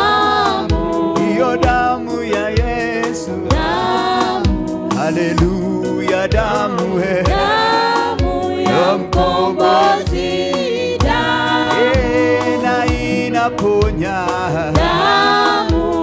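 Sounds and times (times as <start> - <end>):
steady drum beat: 0.0 - 16.0
voices singing gospel song: 0.0 - 16.0.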